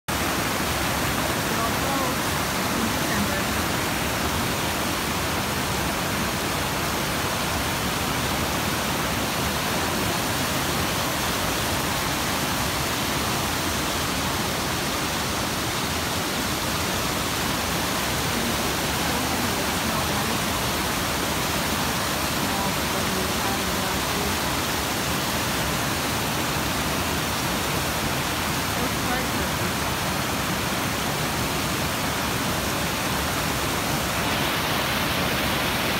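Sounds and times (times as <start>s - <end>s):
water rushing over rocks: 0.1s - 35.9s.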